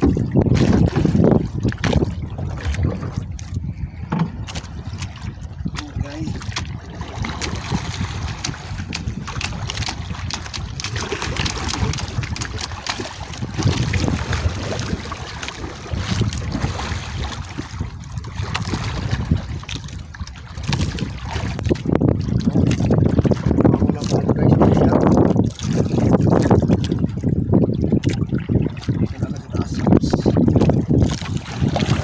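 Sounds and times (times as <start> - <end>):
wind and water hiss: 0.0 - 32.0
wind buffeting microphone: 0.0 - 32.0.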